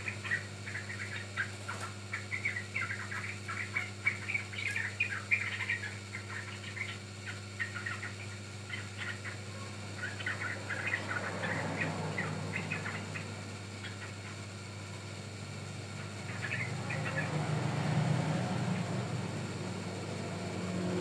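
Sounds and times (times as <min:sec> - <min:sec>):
bulbul chattering calls: 0:00.0 - 0:20.9
steady low hum: 0:00.0 - 0:21.0.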